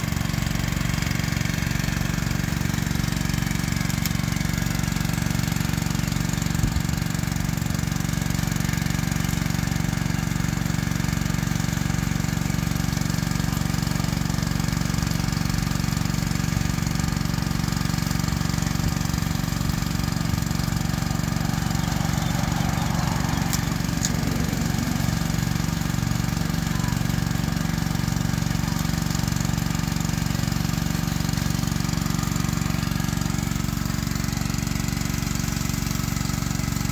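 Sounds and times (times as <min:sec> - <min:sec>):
small engine droning: 0:00.0 - 0:36.9.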